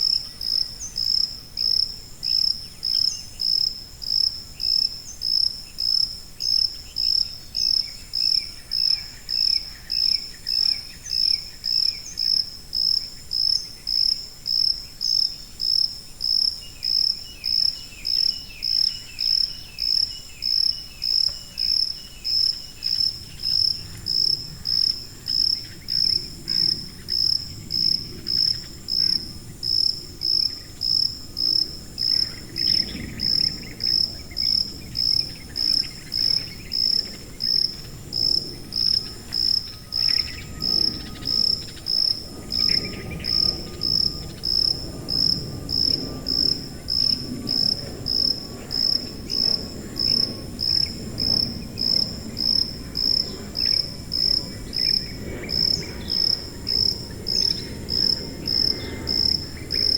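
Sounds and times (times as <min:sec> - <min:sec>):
cricket chirping: 0:00.0 - 0:59.9
insects trilling low: 0:00.0 - 0:59.9.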